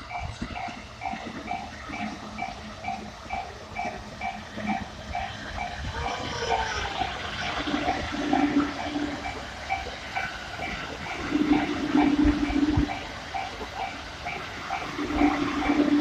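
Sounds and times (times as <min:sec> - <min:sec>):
level-crossing warning bell: 0:00.0 - 0:16.0
passing trains rushing: 0:00.0 - 0:16.0.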